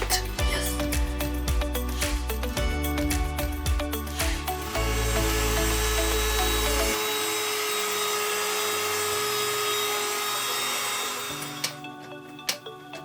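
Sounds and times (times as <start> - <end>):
background music with held tones: 0.0 - 13.0.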